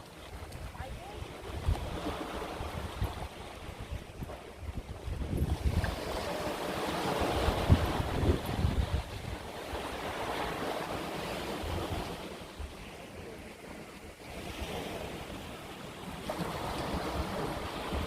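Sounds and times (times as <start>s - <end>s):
wind buffeting microphone: 0.0s - 15.6s, 16.2s - 18.0s
sea surf rushing: 0.0s - 18.0s.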